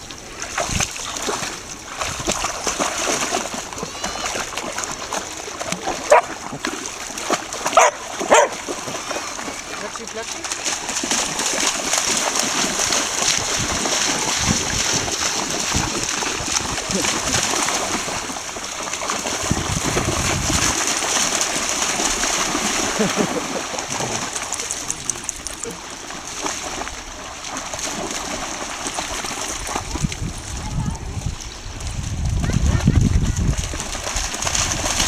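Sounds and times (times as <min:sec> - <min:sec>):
dog splashing through water: 0:00.0 - 0:35.0.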